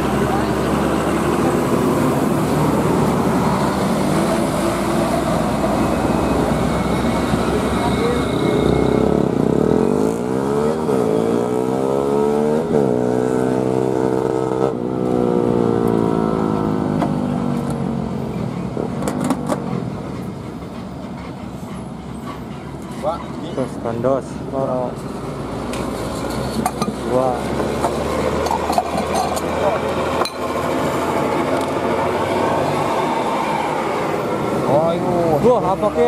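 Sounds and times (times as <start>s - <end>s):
heavy road traffic: 0.0s - 36.0s.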